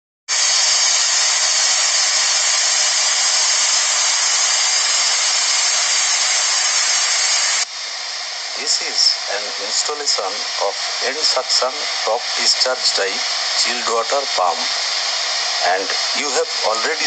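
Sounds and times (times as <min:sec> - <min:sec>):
water pump motor whirring: 0:00.3 - 0:17.0.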